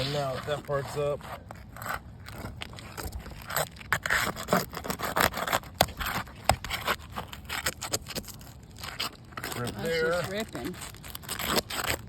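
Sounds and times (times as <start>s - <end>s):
crowbar scraping under shingle: 0.0s - 12.0s
shingle tearing: 0.0s - 12.0s.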